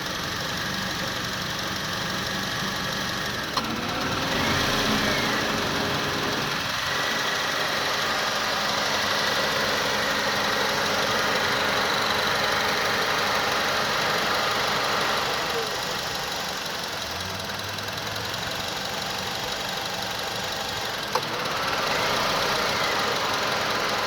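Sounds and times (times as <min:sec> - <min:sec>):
car engine idling roughly: 0:00.0 - 0:24.0.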